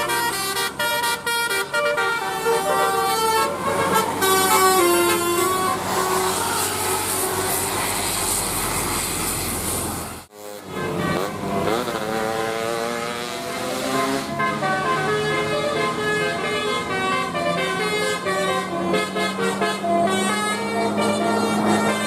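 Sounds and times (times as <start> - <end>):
multi-tone bus horn melody: 0.0 - 8.8, 10.3 - 22.0.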